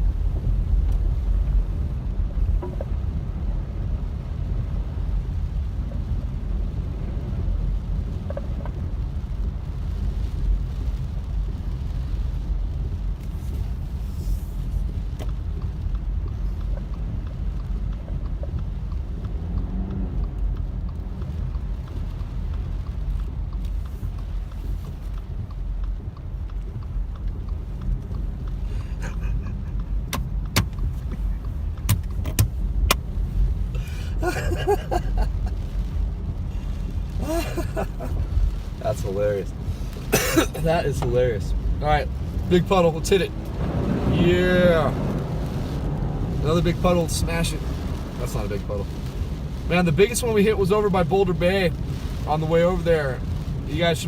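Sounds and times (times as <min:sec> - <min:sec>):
engine and tyres rumbling: 0:00.0 - 0:54.0.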